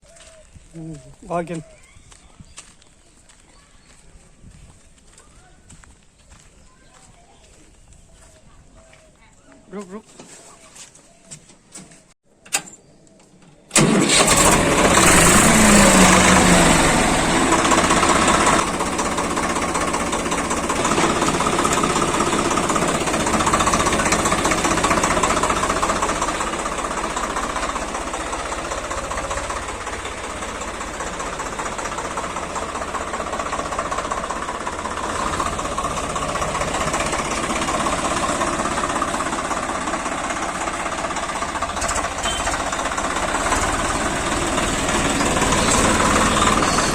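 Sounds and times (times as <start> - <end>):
tractor diesel engine running: 0.0 - 9.9, 13.7 - 46.9.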